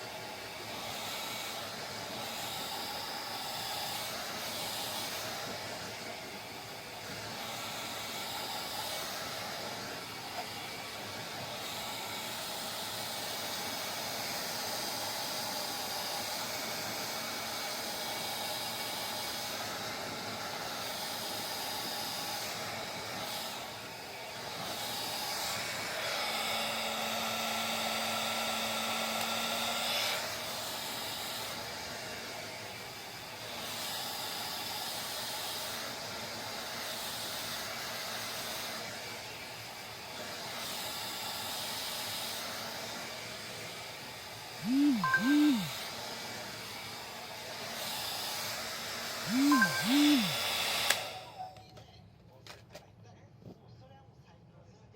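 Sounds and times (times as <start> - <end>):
hair dryer blowing: 0.0 - 51.5.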